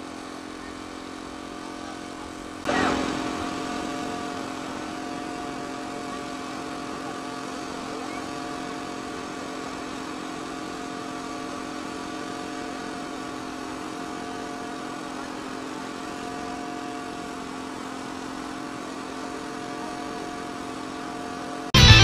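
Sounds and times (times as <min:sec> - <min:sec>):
propeller aircraft engine running: 0:00.0 - 0:22.0.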